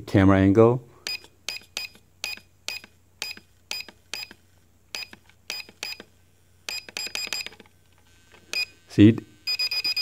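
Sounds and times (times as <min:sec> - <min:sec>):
camera motor buzzy chirps: 0:01.1 - 0:10.0.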